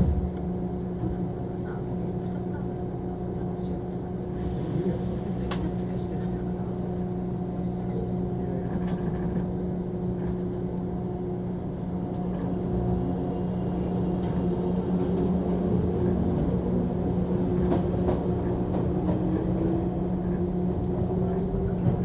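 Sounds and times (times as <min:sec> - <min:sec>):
train interior hum: 0:00.0 - 0:22.0.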